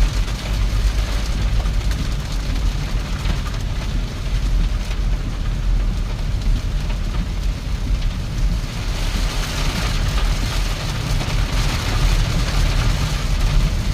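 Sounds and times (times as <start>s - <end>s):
heavy rain pouring: 0.0s - 13.9s
steady low rumble: 0.0s - 13.9s.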